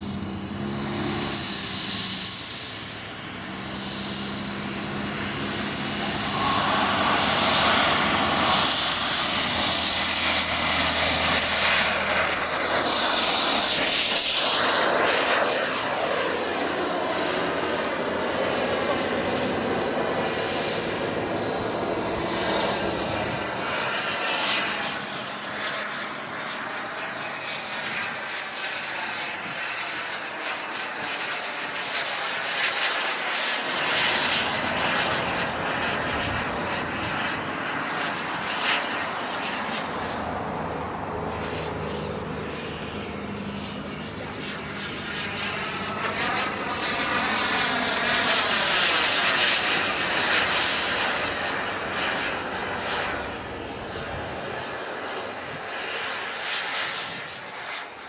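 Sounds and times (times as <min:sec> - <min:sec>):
model jet engine whine: 0:00.0 - 0:58.0
rushing sound of jet: 0:00.0 - 0:58.0.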